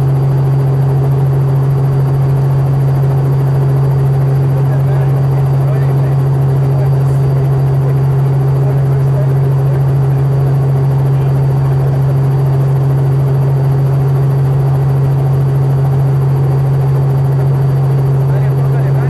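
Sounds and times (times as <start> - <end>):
helicopter running: 0.0 - 19.0.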